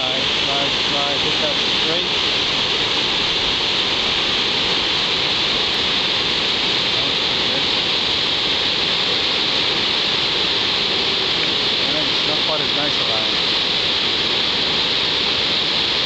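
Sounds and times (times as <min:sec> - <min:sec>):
whitewater rushing: 0:00.0 - 0:16.0.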